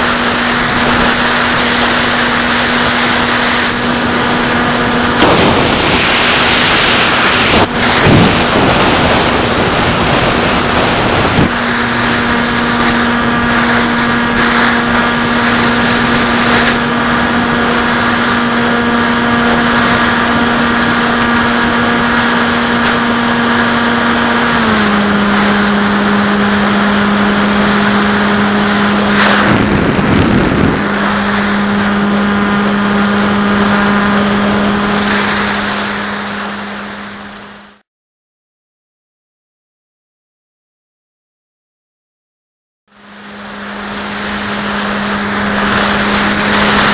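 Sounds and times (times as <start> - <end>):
electric motor and propeller drone: 0.0 - 37.8, 42.9 - 46.9
wind noise rushes: 0.0 - 37.8, 43.0 - 46.9.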